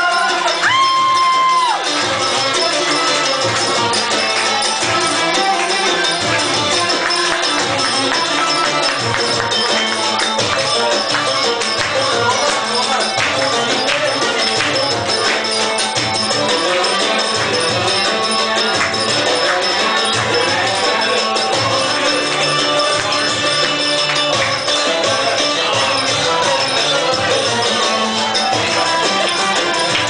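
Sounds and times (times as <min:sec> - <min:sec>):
folk dance music with percussion: 0:00.0 - 0:30.0.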